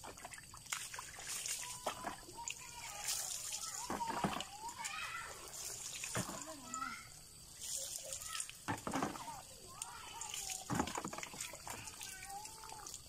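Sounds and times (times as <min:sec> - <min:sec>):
water splashing over body: 0:00.0 - 0:13.0
water trickling: 0:00.0 - 0:13.0.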